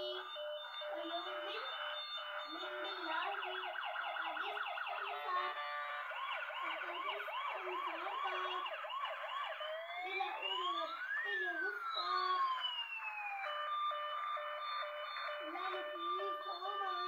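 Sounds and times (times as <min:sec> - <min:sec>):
electronic siren: 0:00.0 - 0:17.0.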